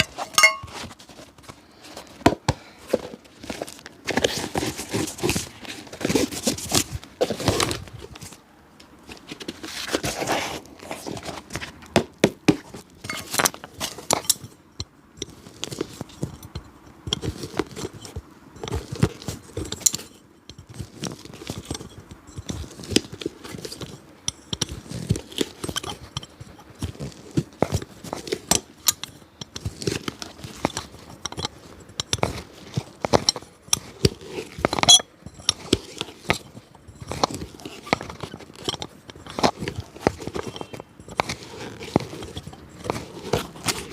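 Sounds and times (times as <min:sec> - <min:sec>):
scraping and rustling: 0:00.0 - 0:43.9.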